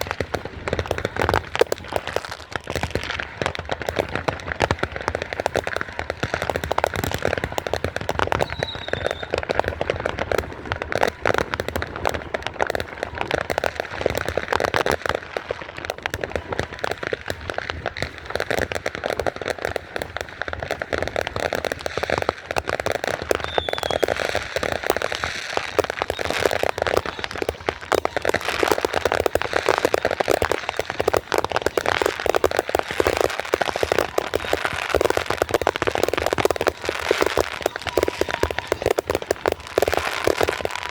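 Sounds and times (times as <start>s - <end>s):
high firework whistles: 0.0s - 15.6s, 21.4s - 40.9s
firecrackers crackling: 0.0s - 40.9s.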